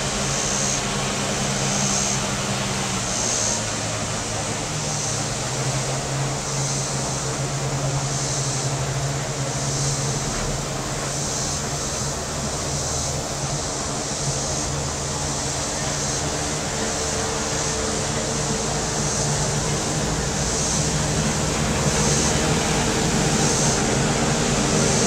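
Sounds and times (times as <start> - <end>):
cicadas shrilling: 0.0 - 25.0
low engine drone: 0.0 - 25.0.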